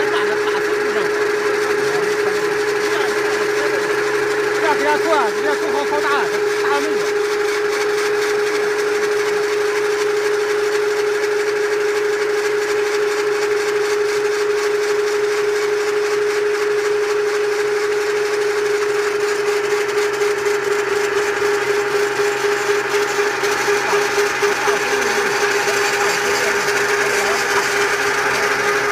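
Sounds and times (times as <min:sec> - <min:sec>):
electric rock drill running: 0:00.0 - 0:28.9.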